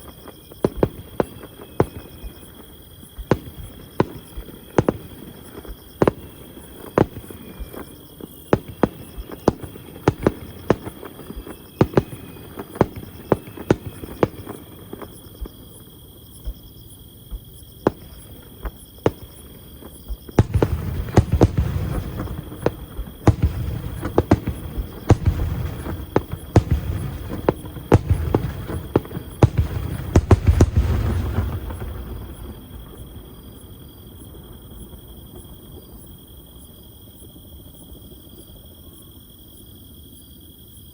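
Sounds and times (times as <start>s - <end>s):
fireworks bangs: 0.0s - 16.7s, 17.3s - 33.4s.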